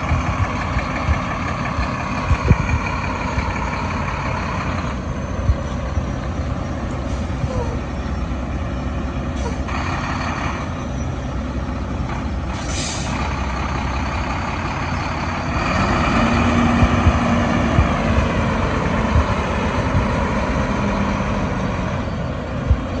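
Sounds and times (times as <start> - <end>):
truck diesel engine running: 0.0 - 23.0.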